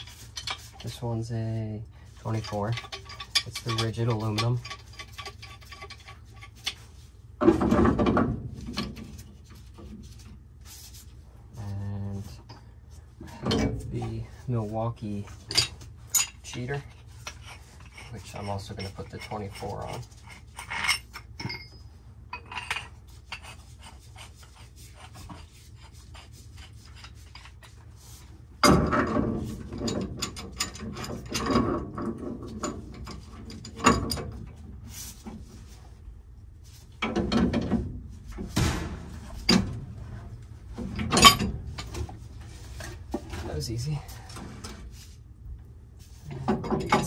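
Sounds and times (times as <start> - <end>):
metal clanking and scraping: 0.0 - 1.2, 2.1 - 10.9, 12.2 - 36.0, 36.6 - 45.2, 46.0 - 47.0.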